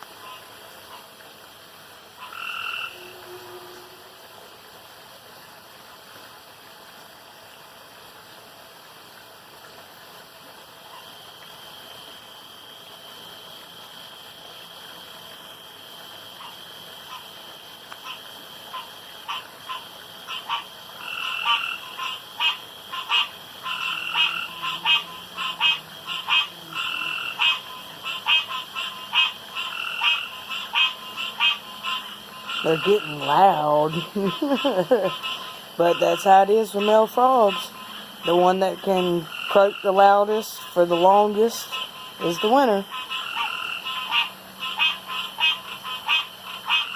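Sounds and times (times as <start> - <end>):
frogs croaking in chorus: 0.0 - 1.3, 2.0 - 4.1, 10.8 - 46.9.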